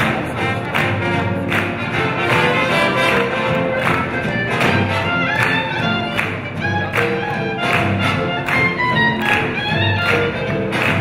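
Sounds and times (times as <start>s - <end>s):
double bass: 0.0s - 11.0s
piano: 0.0s - 11.0s
swing big band playing: 0.0s - 11.0s.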